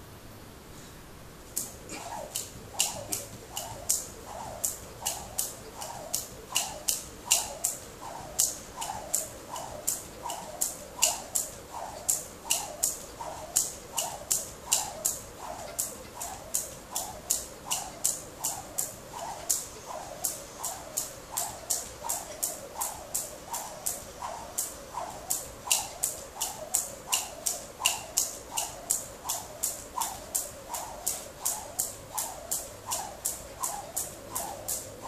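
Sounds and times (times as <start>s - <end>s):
jump rope slapping tile floor: 1.6s - 35.0s.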